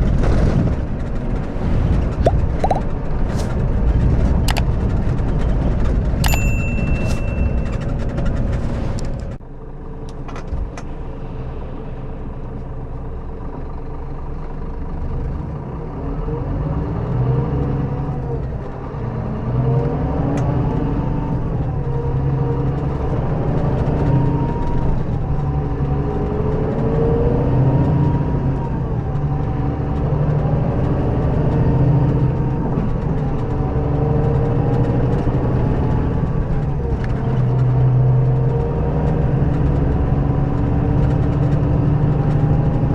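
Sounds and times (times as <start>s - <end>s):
diesel engine accelerating: 0.0s - 42.9s.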